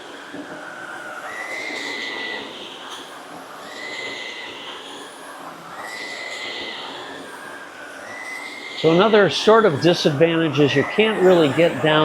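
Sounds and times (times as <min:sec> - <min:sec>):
vacuum cleaner motor whine: 0:00.0 - 0:12.0.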